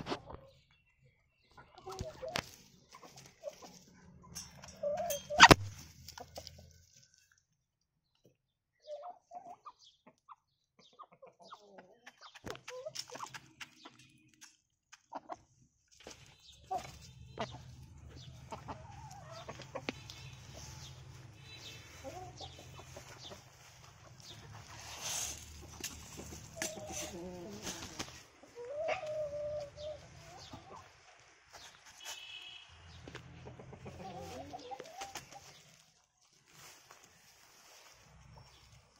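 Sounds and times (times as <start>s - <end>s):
chickens clucking: 0.0s - 7.4s, 8.7s - 32.2s, 32.9s - 38.9s.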